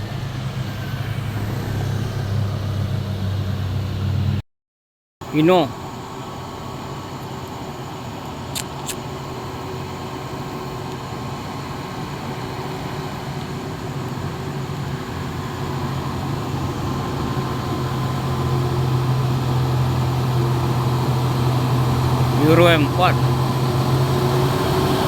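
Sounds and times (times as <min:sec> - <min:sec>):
diesel truck engine crawling: 0:00.0 - 0:04.4, 0:05.2 - 0:25.0.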